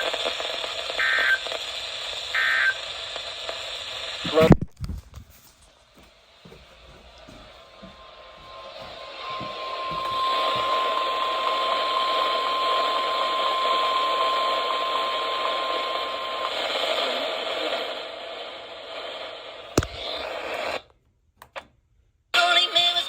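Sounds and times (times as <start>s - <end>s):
radio static hiss: 0.0s - 5.1s, 5.9s - 20.9s.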